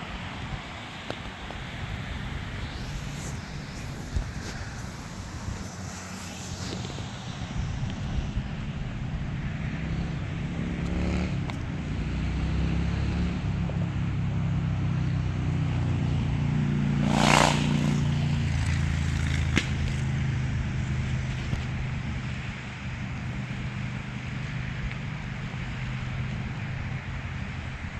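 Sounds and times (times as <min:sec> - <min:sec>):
passing motor engines: 0:00.0 - 0:27.9.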